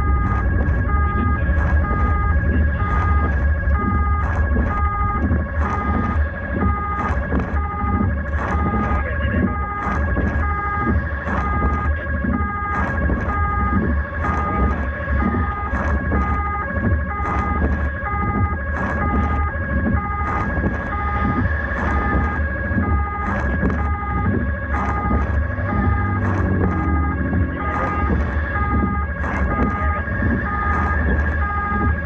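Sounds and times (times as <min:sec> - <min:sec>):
engine and road rumble: 0:00.0 - 0:32.0
two-tone electronic siren: 0:00.0 - 0:32.0.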